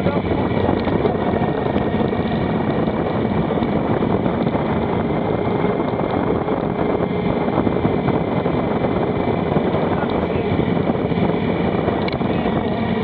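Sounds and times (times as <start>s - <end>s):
motorcycle engine running: 0.0s - 13.0s
wind rush over microphone: 0.0s - 13.0s.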